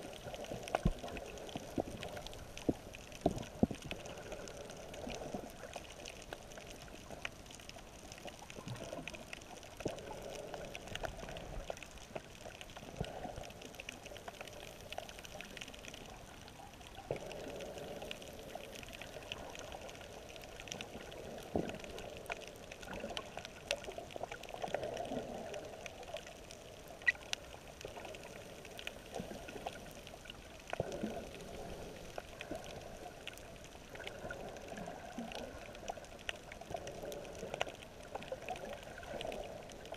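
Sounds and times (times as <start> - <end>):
muffled underwater water sloshing: 0.0 - 39.9
small clicks and ticks: 0.0 - 39.9.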